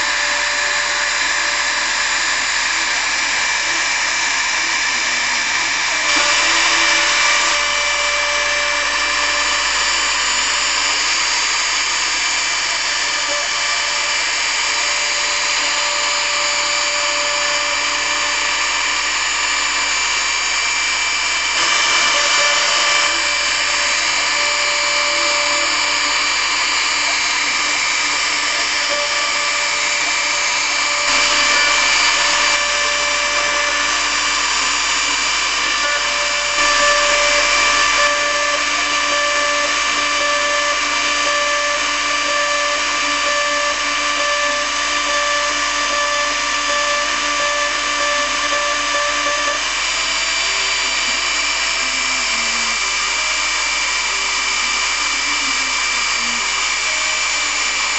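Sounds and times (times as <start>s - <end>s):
bit cutting wood: 0.0s - 57.9s
router spindle whine: 0.0s - 57.9s.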